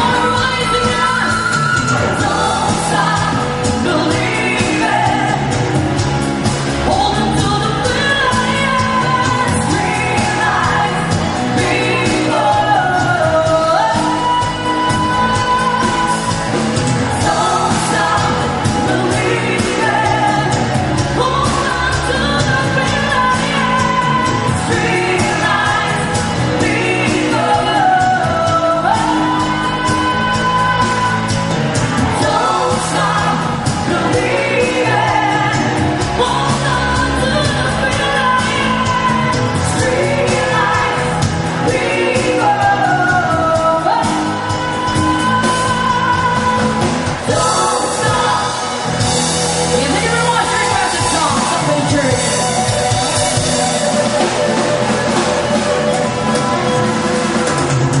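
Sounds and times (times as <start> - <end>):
band playing a song: 0.0 - 58.0
person singing: 0.0 - 58.0
steady drum beat: 0.0 - 58.0.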